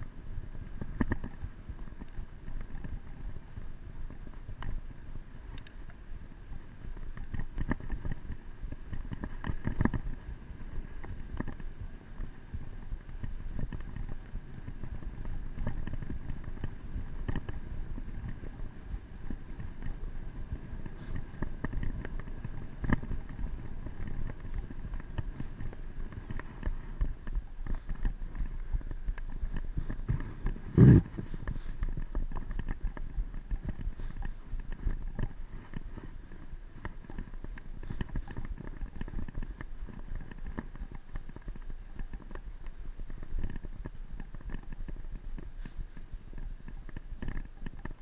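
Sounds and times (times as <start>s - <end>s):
bicycle knocking and rattling: 0.0s - 48.0s
wind rumble on microphone: 0.0s - 48.0s.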